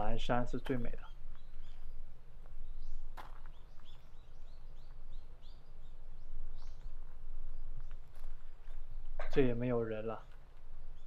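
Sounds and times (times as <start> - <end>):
small bird chirping: 0.7 - 11.0.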